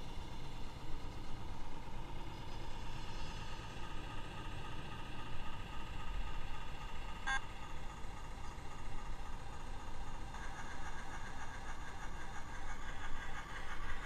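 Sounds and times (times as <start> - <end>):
model locomotive whine and rumble: 0.0 - 14.0.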